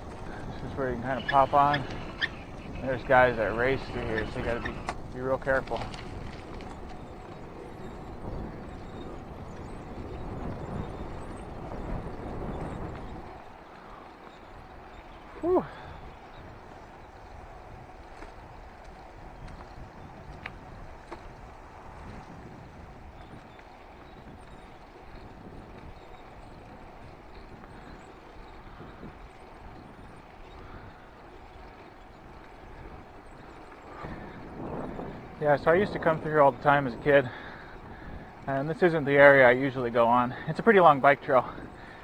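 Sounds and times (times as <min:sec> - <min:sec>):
bicycle road noise: 0:00.0 - 0:42.0
wind rumble: 0:00.0 - 0:42.0.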